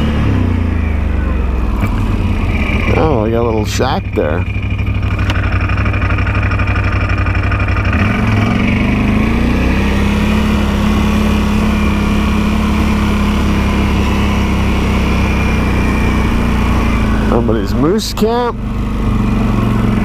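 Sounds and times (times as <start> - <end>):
vehicle engine running while driving: 0.0 - 20.0.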